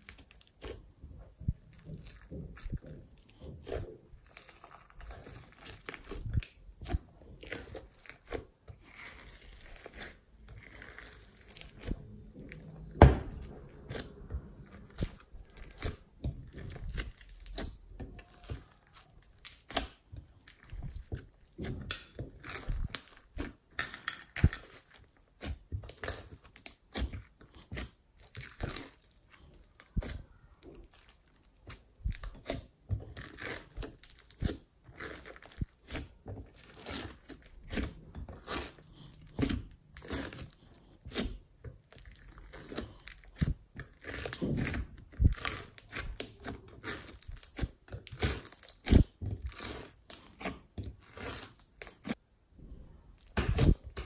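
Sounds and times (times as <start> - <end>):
slime squished by hand: 0.0 - 23.7, 24.3 - 52.2.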